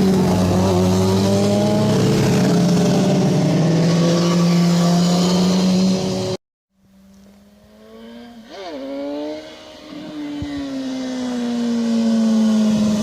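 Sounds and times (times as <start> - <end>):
motorcycle engine approaching: 0.0 - 6.4, 7.0 - 13.0.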